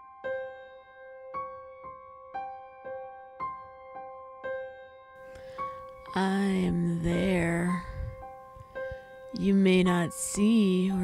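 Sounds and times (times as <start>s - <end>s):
slow solo piano notes: 0.0s - 11.0s.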